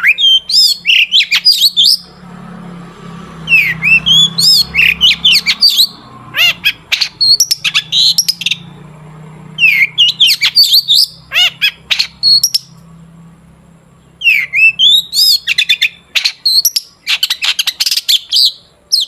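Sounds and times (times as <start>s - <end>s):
bird singing sharp chirps: 0.0s - 2.2s, 3.0s - 8.8s, 9.5s - 13.0s, 14.0s - 19.0s.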